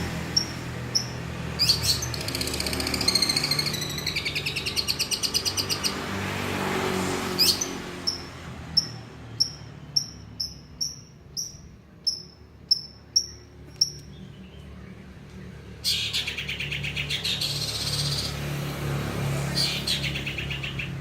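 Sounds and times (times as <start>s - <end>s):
bird singing chirps and trills: 0.0s - 6.5s, 7.2s - 21.0s.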